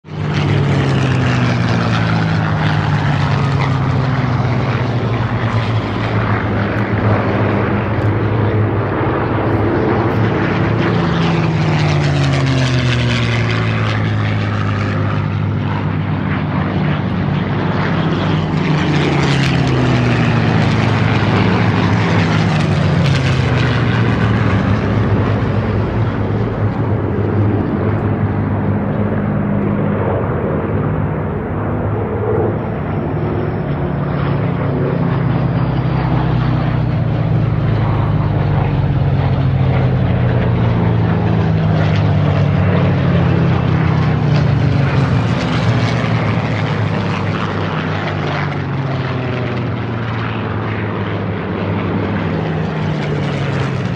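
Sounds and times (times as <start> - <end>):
propeller aircraft passing by: 0.0 - 53.9.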